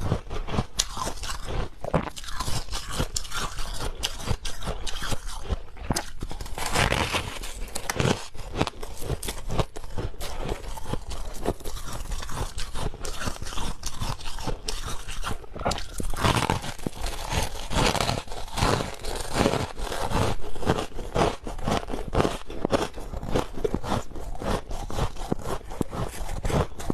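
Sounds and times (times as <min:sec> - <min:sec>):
chewing ice cubes: 0:00.0 - 0:26.9.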